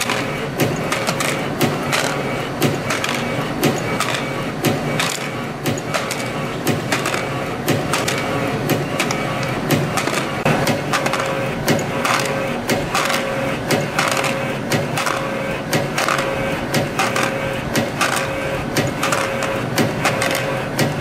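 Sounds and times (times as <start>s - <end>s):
machine humming: 0.0s - 21.0s
sharp machine clicks: 0.0s - 21.0s.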